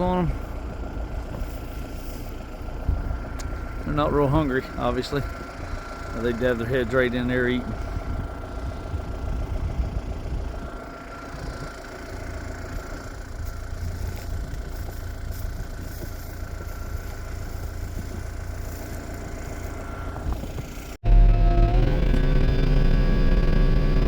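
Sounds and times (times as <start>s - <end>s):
loud engine: 0.0s - 24.0s
tractor engine idling: 0.0s - 24.0s.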